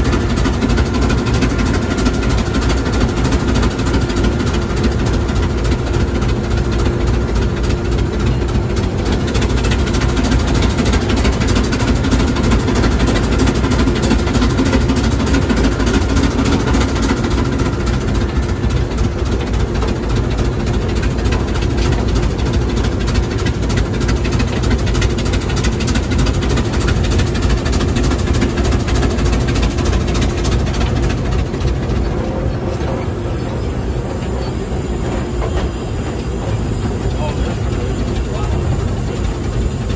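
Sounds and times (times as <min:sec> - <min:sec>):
steam engine and gearing running: 0:00.0 - 0:39.9.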